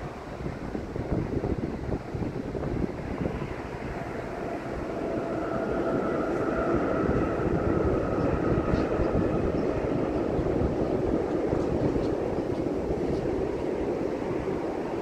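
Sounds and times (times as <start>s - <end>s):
train rumble with whine: 0.0s - 15.0s.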